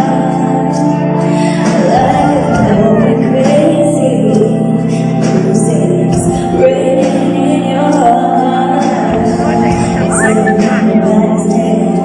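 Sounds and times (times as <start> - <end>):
live pop ballad by band: 0.0 - 12.0
woman singing: 0.0 - 12.0.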